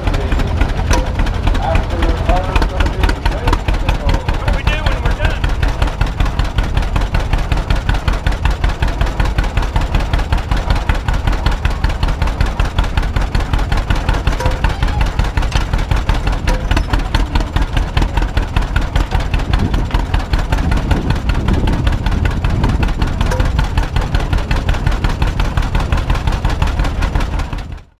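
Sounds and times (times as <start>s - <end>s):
tractor engine pulsing exhaust: 0.0s - 28.0s.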